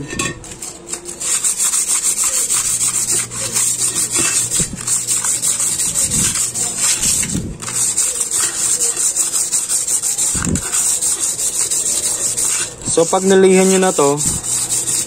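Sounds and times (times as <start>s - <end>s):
sandpaper rubbing on metal: 0.2s - 15.0s.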